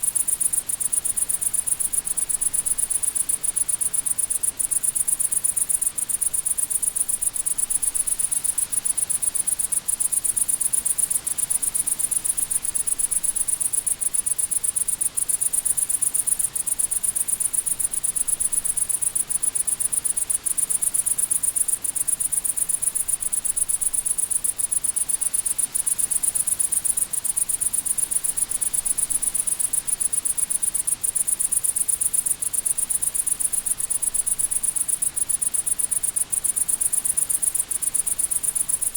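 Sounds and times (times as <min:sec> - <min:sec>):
crickets chirping: 0:00.0 - 0:38.9
faint background hiss: 0:00.0 - 0:38.9.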